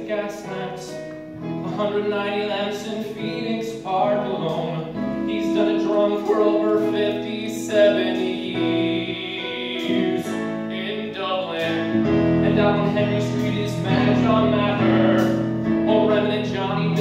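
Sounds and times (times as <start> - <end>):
keyboard playing sustained chords: 0.0 - 17.0.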